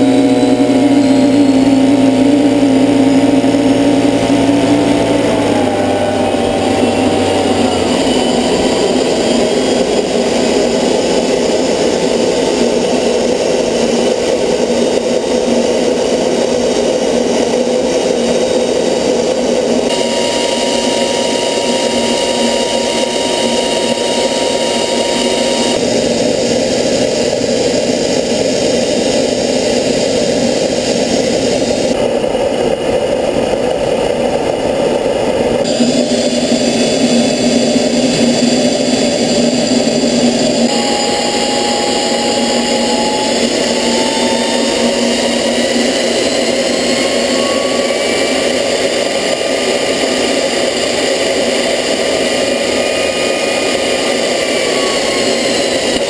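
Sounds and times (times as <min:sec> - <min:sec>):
turbojet engine roaring: 0:00.0 - 0:56.0.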